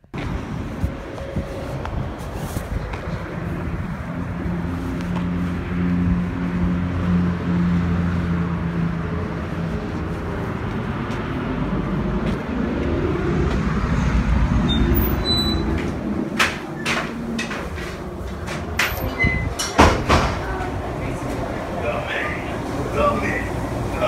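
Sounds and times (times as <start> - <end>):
car engine humming: 0.0 - 24.0
road traffic noise: 0.0 - 24.0.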